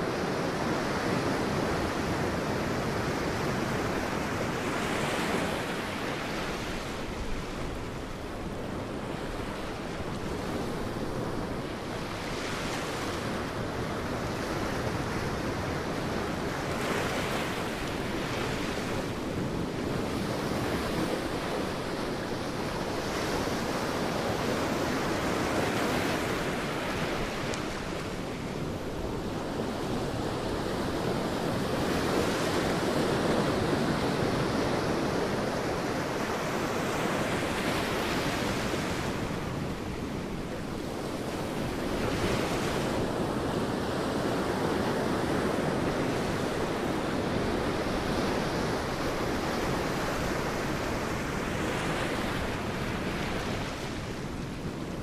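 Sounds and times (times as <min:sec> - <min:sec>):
sea waves breaking on a beach: 0:00.0 - 0:55.0
wind: 0:00.0 - 0:55.0.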